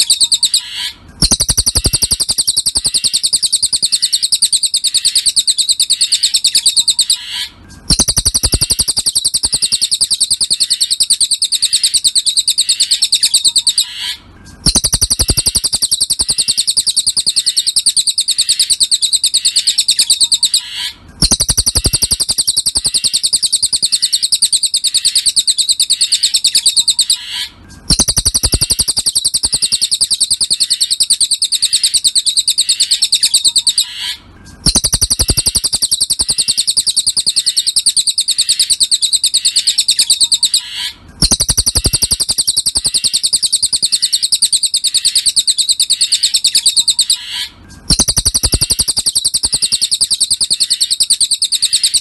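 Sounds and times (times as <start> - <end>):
songbird chattering trill: 0.0 - 52.0.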